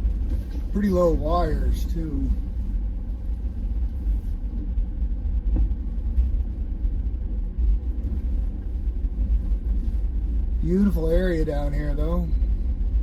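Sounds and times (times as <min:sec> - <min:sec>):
vehicle rumbling over gravel road: 0:00.0 - 0:13.0.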